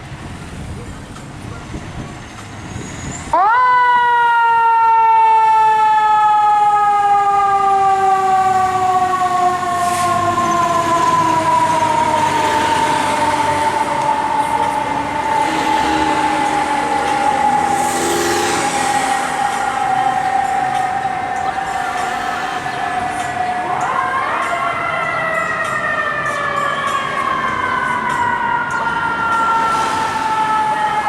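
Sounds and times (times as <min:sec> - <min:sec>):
traffic noise: 0:00.0 - 0:31.0
mechanical siren wailing: 0:03.3 - 0:31.0.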